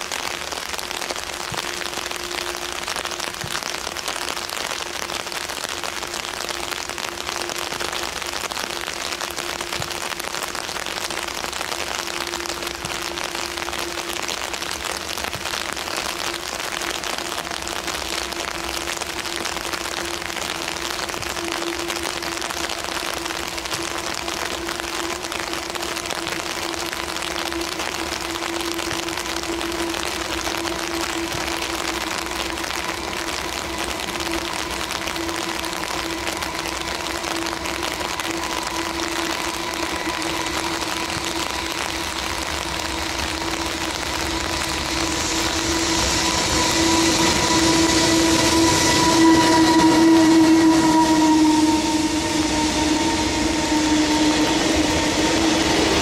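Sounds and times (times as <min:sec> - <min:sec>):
steady rain hiss: 0:00.0 - 0:56.0
train low hum: 0:00.0 - 0:56.0.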